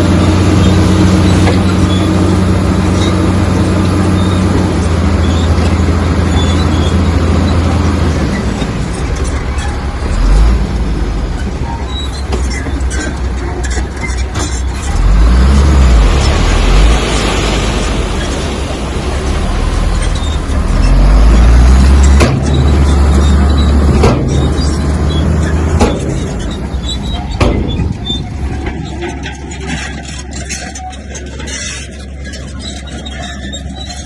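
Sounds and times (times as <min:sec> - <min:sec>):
knocks and clatter: 0:00.0 - 0:18.5, 0:20.0 - 0:34.0
diesel engine running: 0:00.0 - 0:34.0
low rumbles: 0:00.0 - 0:34.0.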